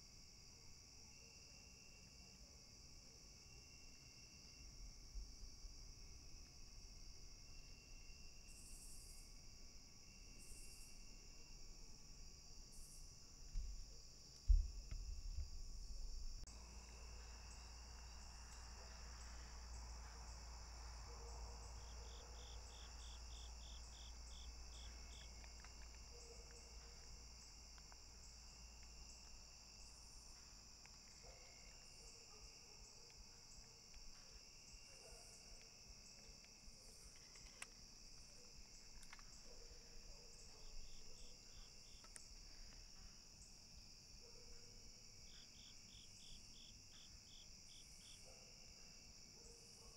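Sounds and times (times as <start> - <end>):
crickets trilling: 3.4 - 49.8.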